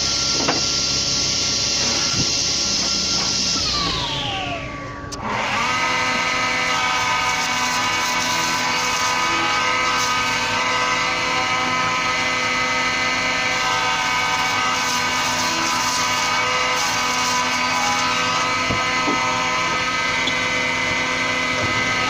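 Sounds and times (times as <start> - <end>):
power machine motor whine: 0.0 - 22.0.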